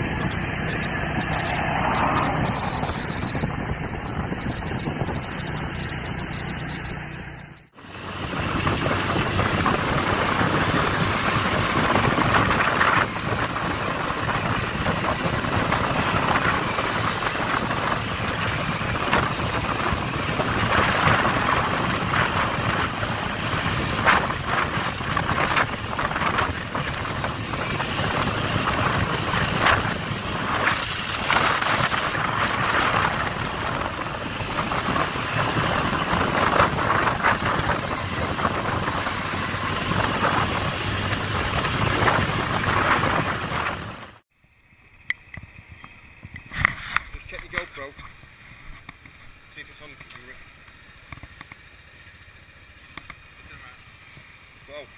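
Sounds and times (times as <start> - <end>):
small motorbike engine running: 0.0 - 54.9
wind and road noise: 0.0 - 54.9.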